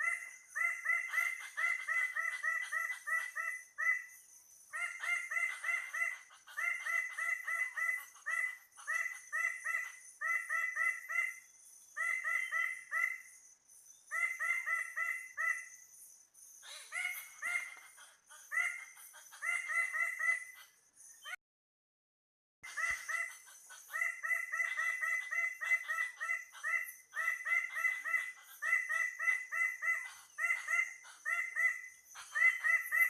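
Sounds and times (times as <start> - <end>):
birds calling with harsh notes: 0.0 - 21.4, 22.6 - 33.0.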